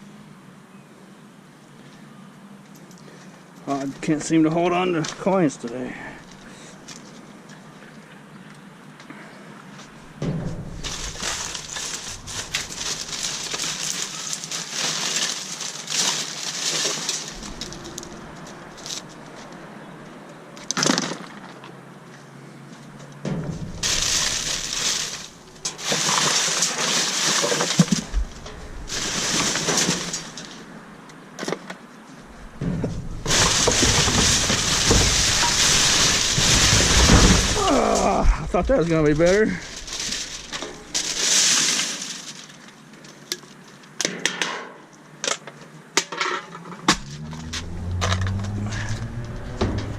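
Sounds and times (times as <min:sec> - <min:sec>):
trash rustling and clattering: 0:03.7 - 0:07.6, 0:09.7 - 0:49.9.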